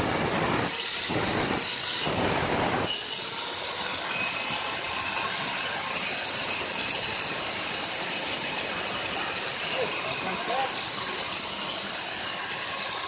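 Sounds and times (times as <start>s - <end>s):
steady hiss: 0.0s - 13.0s
angle grinder grinding stone: 0.4s - 13.0s.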